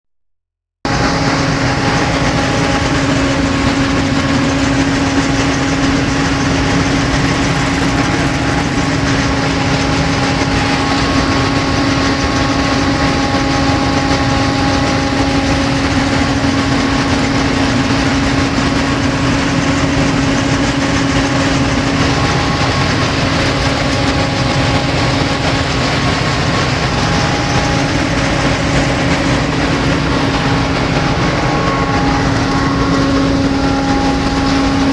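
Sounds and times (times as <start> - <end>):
combine harvester engine drone: 0.8 - 34.9
constant whine: 0.9 - 34.9.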